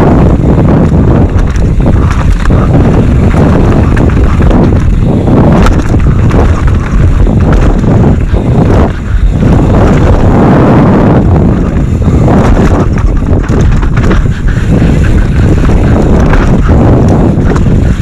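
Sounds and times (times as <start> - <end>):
mountain bike rattling over rocks: 0.0 - 18.0
wind buffeting microphone: 0.0 - 18.0.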